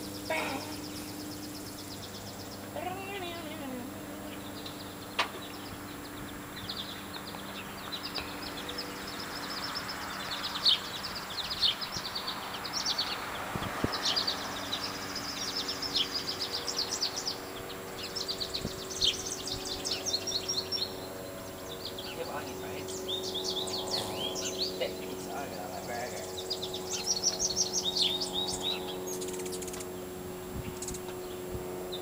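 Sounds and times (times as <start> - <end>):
faint steady hum: 0.0 - 32.0
small birds chirping: 0.0 - 32.0.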